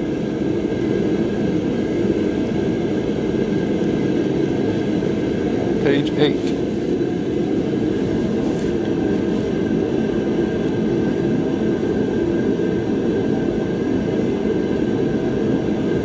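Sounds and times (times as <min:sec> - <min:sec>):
steady machine drone: 0:00.0 - 0:16.0.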